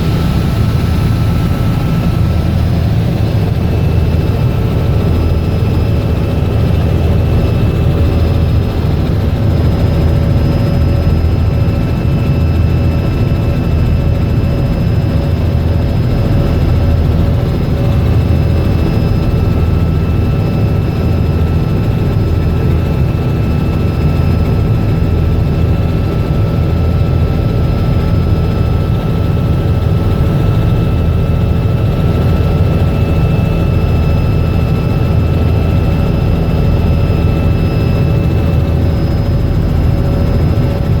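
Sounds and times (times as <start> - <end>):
helicopter turbine and rotor drone: 0.0 - 41.0.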